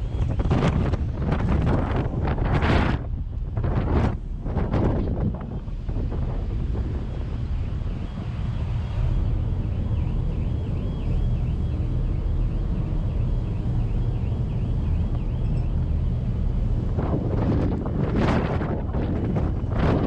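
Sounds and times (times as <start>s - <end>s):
ship engine low rumble: 0.0s - 20.0s.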